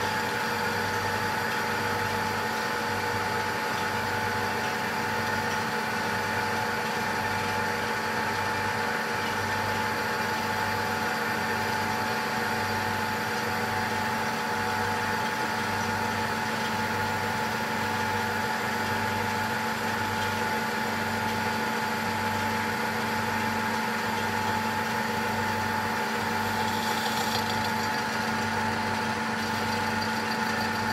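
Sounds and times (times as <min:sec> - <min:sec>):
metal lathe running: 0:00.0 - 0:30.9.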